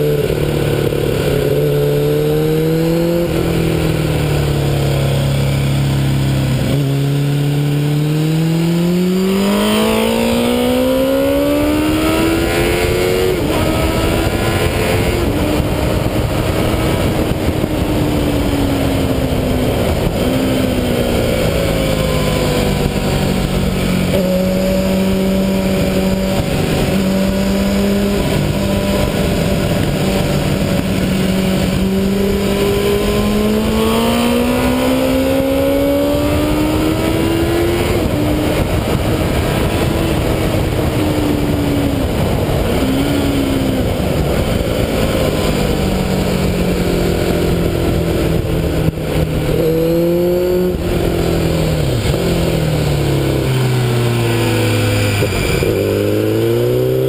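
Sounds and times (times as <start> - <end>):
motorcycle engine accelerating: 0.0 - 57.0
wind rush over microphone: 0.0 - 57.0.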